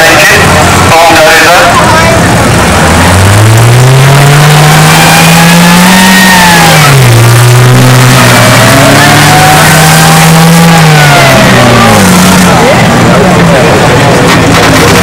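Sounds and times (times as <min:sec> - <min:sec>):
petrol engine revving: 0:00.0 - 0:15.0.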